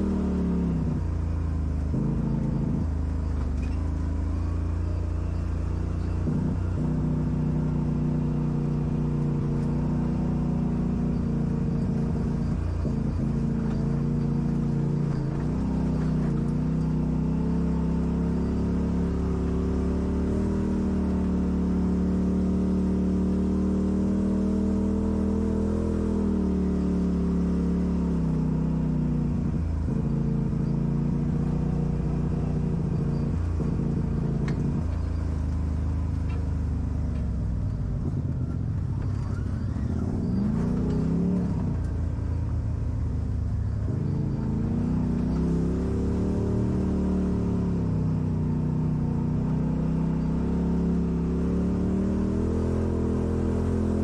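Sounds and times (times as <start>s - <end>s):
off-road vehicle engine under load: 0.0s - 54.0s.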